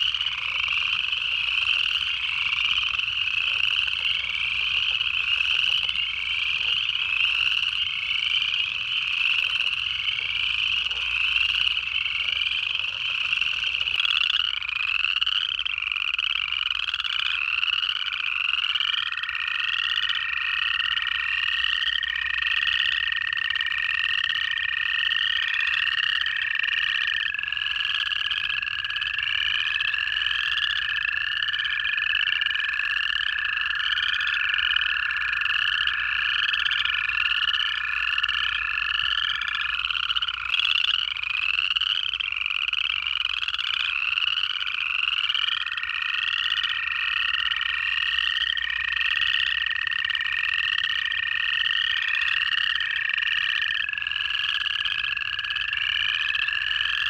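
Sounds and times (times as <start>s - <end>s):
frogs giving rising trills: 0.0s - 57.0s
toads giving long steady trills: 0.0s - 57.0s.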